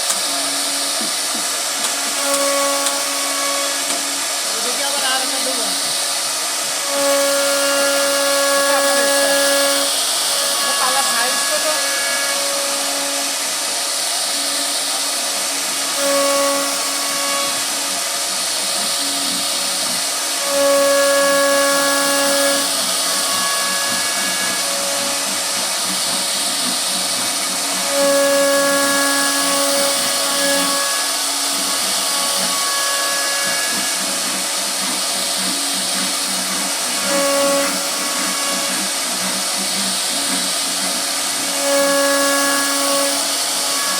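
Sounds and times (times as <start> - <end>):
router cutting wood: 0.0 - 43.9.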